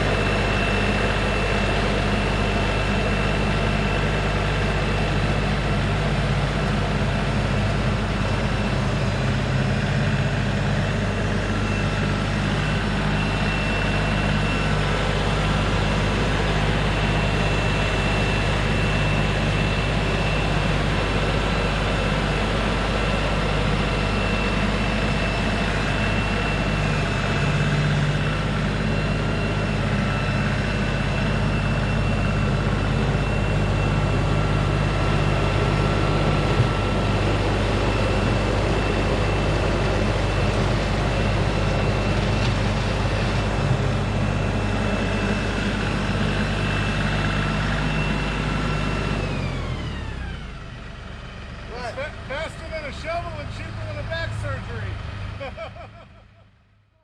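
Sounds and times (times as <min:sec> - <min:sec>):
tractor diesel engine running: 0:00.0 - 0:56.6.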